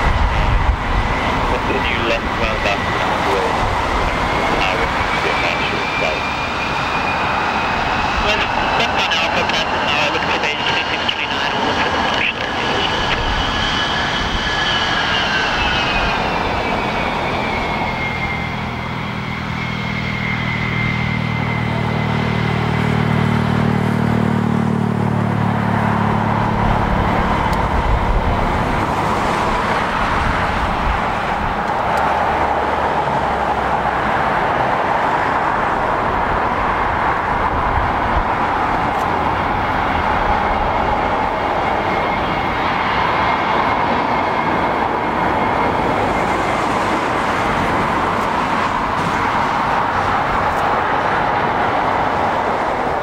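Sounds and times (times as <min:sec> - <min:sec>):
jet engines whining: 0:00.0 - 0:53.0
road traffic drone: 0:00.0 - 0:53.0.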